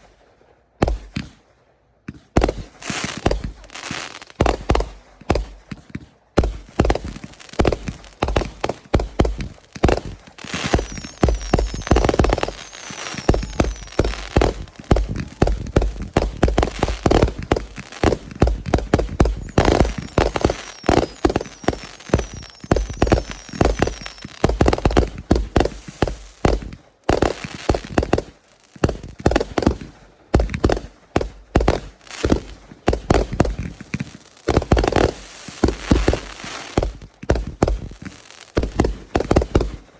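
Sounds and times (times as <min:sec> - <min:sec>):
fireworks bangs and pops: 0:00.0 - 0:39.9
fireworks high whistles: 0:02.1 - 0:39.9.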